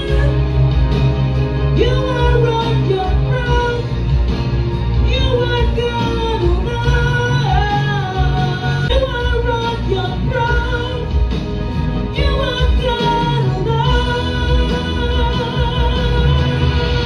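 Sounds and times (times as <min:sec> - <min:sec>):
woman singing: 0:00.0 - 0:00.7, 0:01.7 - 0:04.0, 0:05.0 - 0:11.3, 0:12.1 - 0:17.0
backing track with heavy bass: 0:00.0 - 0:17.0.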